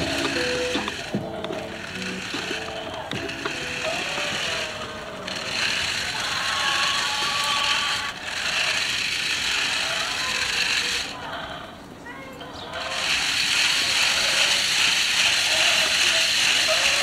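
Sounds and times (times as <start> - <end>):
toy car motor whirring: 0.0 - 11.4, 12.7 - 17.0.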